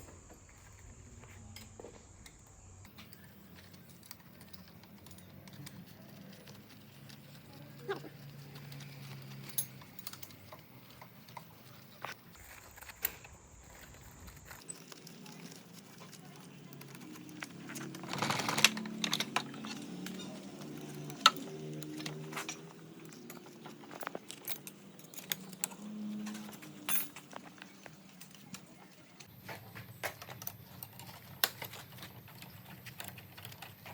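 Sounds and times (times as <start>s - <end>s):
metal tools clicking and clinking: 1.6s - 12.2s, 14.5s - 33.9s.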